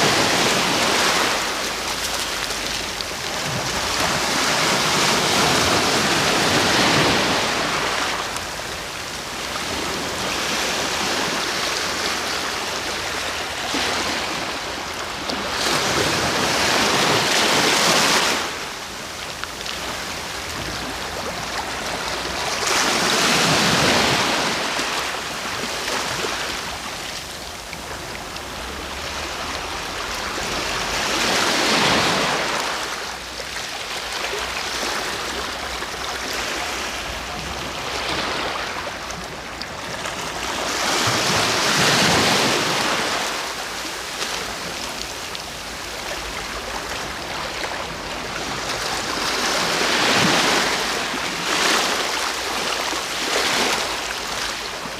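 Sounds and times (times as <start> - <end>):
sea waves breaking ashore: 0.0 - 54.9.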